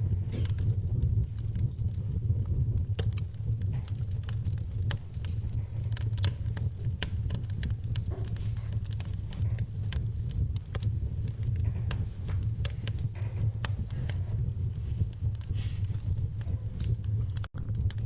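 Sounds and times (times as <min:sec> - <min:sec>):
low rumble: 0:00.0 - 0:18.0
wood fire crackling: 0:00.0 - 0:18.0
soft rain: 0:02.0 - 0:18.0.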